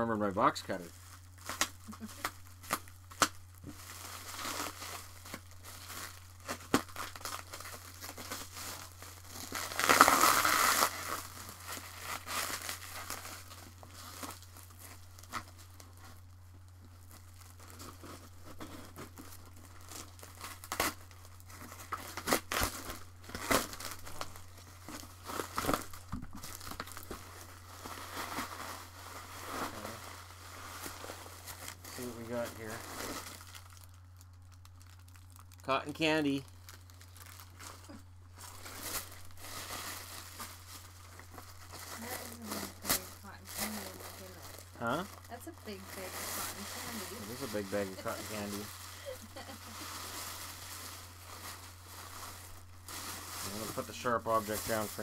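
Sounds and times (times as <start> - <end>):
wrapping crinkling and rustling: 0.2 - 55.0
loud tearing: 1.4 - 15.8, 17.6 - 30.1, 36.5 - 55.0.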